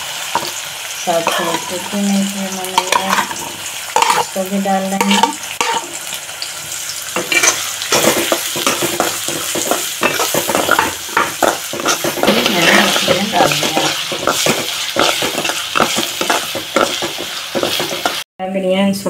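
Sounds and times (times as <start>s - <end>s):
onions sizzling in hot oil: 0.0s - 18.3s
metal spatula scraping pan: 1.1s - 6.0s, 7.2s - 18.2s.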